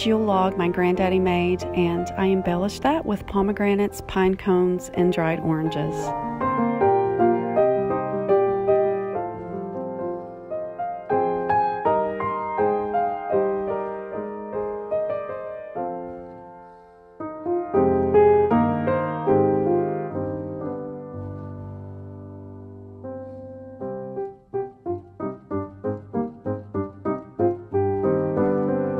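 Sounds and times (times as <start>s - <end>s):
slow piano chords: 0.0s - 28.9s.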